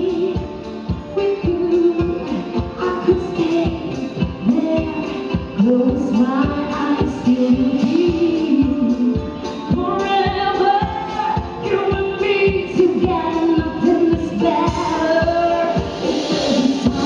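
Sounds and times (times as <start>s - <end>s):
woman singing a pop ballad: 0.0s - 17.0s.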